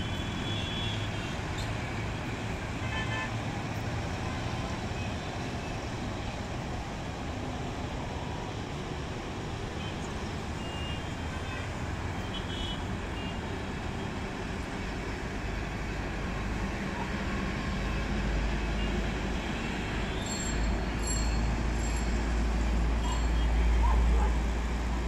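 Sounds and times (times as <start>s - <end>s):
distant road traffic: 0.0s - 25.0s.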